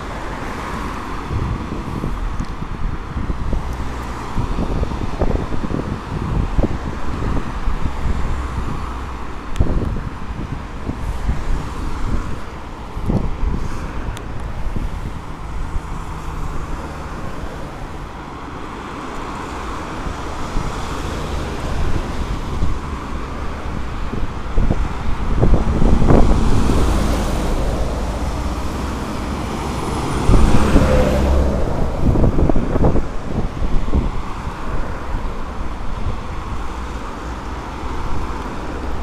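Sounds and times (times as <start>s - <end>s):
cars passing on expressway: 0.0s - 39.0s.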